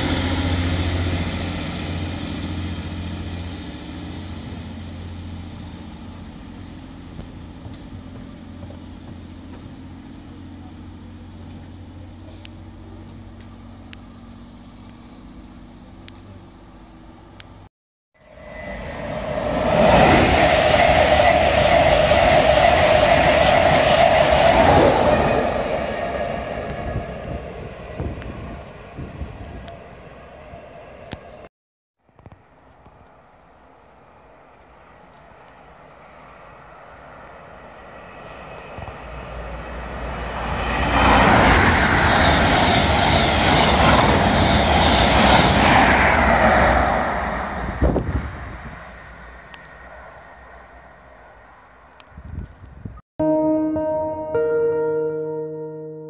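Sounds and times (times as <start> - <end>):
train roaring past: 0.0 - 15.8, 18.2 - 31.5, 34.1 - 52.1.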